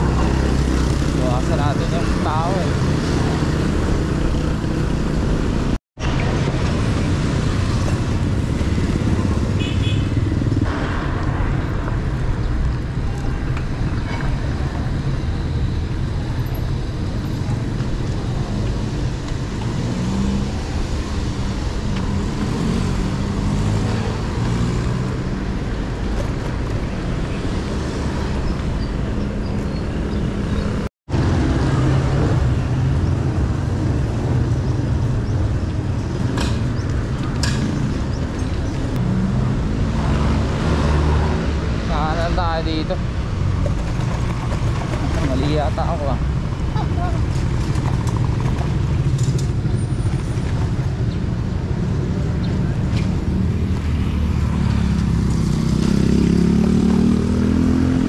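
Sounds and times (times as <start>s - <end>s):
engines passing: 0.0s - 58.0s
road traffic: 0.0s - 58.0s.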